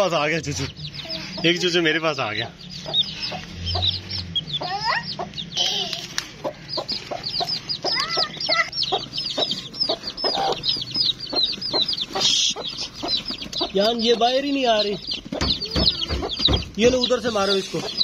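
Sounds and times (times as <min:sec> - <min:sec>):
chicks peeping: 0:00.0 - 0:18.0
hen clucking: 0:00.0 - 0:18.0.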